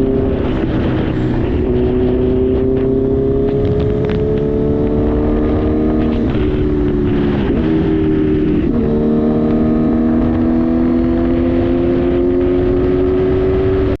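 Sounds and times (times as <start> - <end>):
low wind rumble: 0.0 - 14.0
motorcycle engine accelerating: 0.0 - 14.0.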